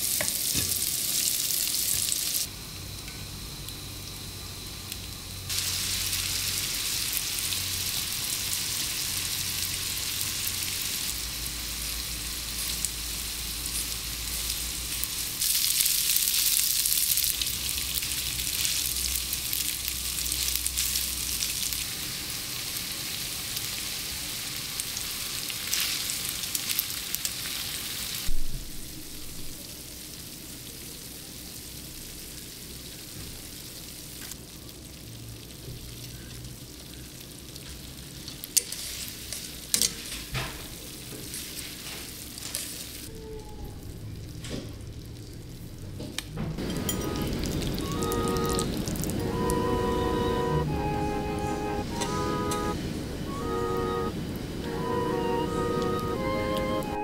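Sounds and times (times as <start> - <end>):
food sizzling in a skillet: 0.0 - 43.1, 46.6 - 49.4.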